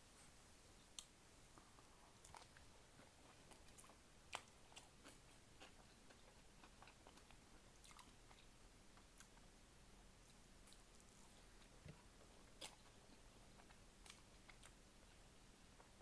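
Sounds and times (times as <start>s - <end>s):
faint chewing: 0.2s - 9.5s, 10.2s - 16.0s.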